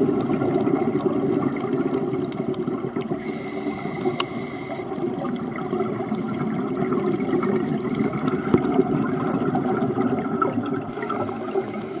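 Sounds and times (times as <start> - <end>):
underwater regulator bubbles: 0.0 - 12.0.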